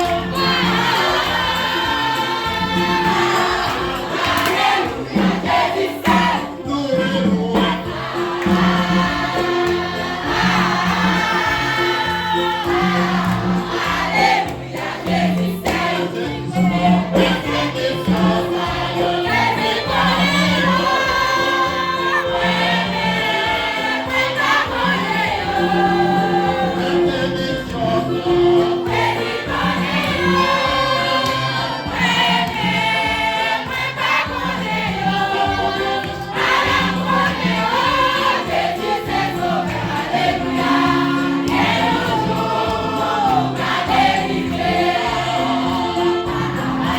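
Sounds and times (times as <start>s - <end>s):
choir singing a hymn: 0.0s - 46.9s
instrumental accompaniment: 0.0s - 46.9s.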